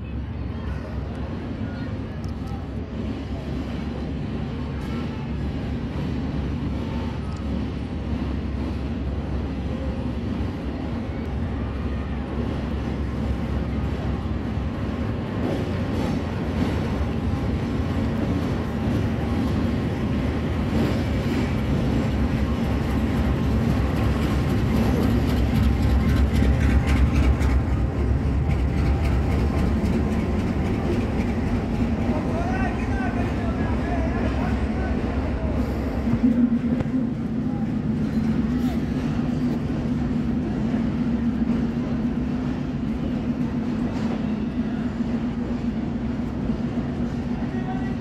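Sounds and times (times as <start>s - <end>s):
coaches clicking over rails: 0.0s - 48.0s
locomotive engine hum: 0.0s - 48.0s.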